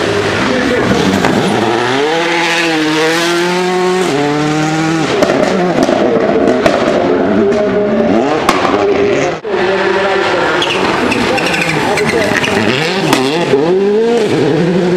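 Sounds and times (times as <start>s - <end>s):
rally car accelerating: 0.0s - 14.9s
rally car passing: 0.0s - 14.9s.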